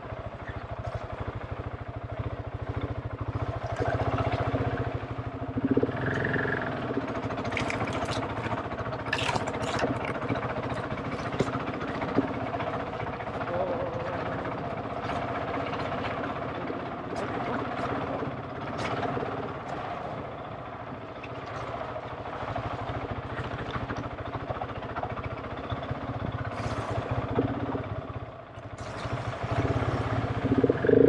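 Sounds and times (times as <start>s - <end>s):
motorcycle engine revving: 0.0s - 20.9s, 22.0s - 31.0s.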